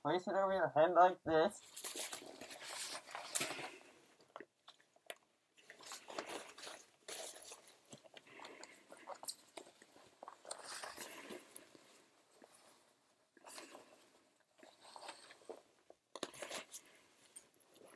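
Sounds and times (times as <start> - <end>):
rubber gas mask rustling and crinkling: 1.6 - 17.9.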